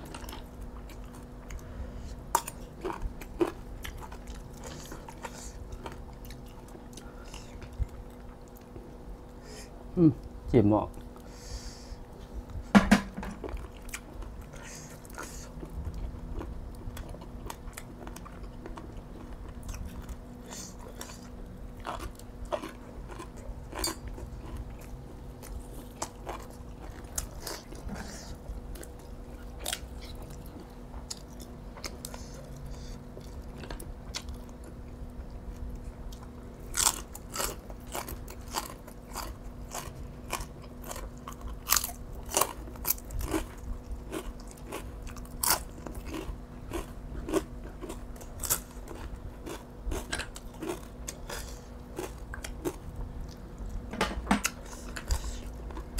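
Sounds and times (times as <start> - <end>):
person chewing and crunching: 0.0 - 9.1, 13.2 - 55.9
faint steady hum: 0.0 - 55.9.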